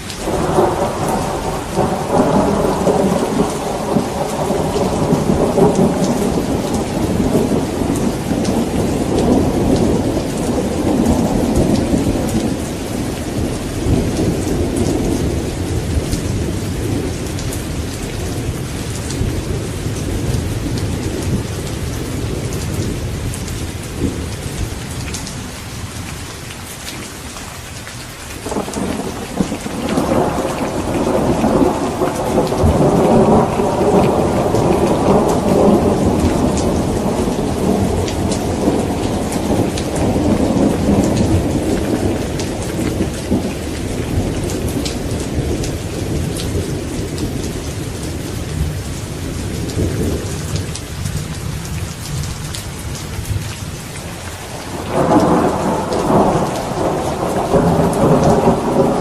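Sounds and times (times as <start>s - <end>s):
steady rain: 0.0s - 59.0s
rolling thunder: 0.2s - 25.4s, 28.4s - 52.6s, 54.4s - 59.0s.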